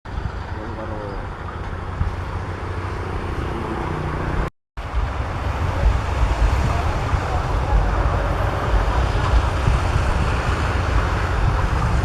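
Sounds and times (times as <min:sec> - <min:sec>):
harvester engine rumbling: 0:00.1 - 0:12.0.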